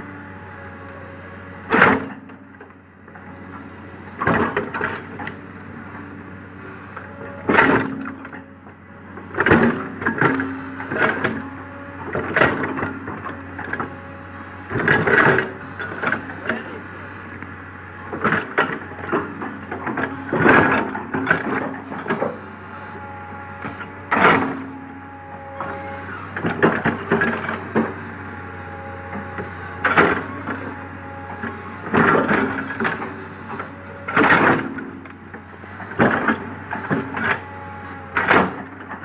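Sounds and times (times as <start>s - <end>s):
diesel engine hum: 0.0s - 39.0s
excavator bucket crunching ground: 4.1s - 39.0s.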